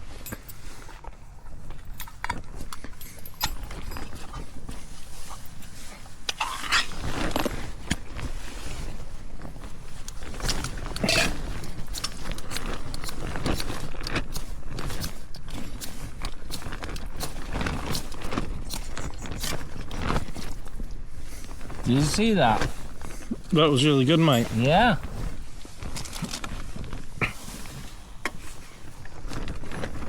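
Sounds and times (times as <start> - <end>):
nylon fabric rustling: 0.0 - 30.0.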